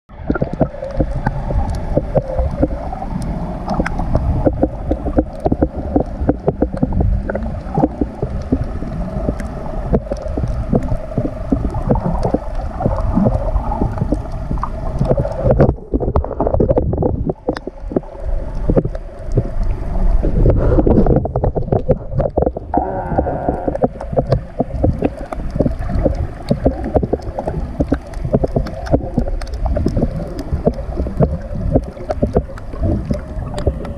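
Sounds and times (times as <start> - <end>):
underwater crackling clicks and gurgles: 0.1 - 33.9
underwater rumble of moving water: 0.1 - 33.9.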